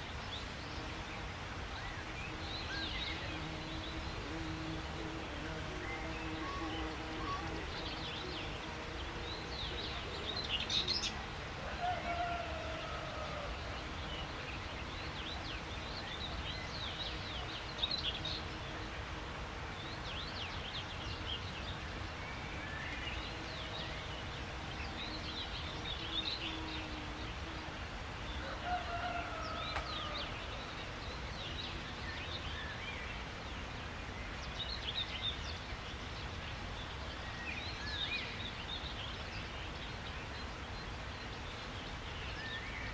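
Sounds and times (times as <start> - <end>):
low background noise: 0.0 - 42.9
songbirds chirping: 0.0 - 42.9.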